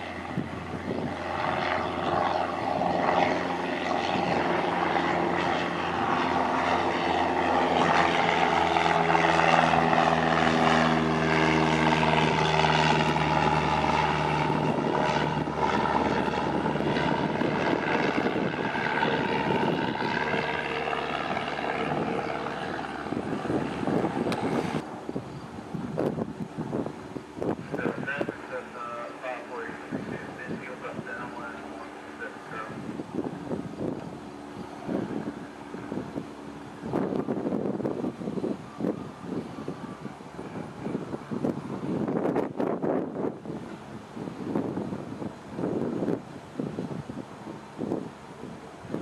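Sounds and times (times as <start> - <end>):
propeller plane engine droning: 0.0 - 49.0.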